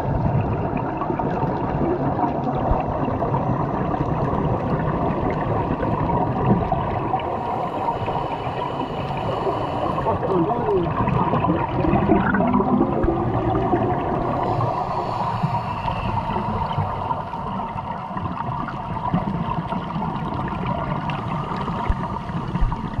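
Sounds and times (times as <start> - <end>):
gurgling regulator bubbles: 0.0 - 23.0
muffled underwater rumble: 0.0 - 23.0.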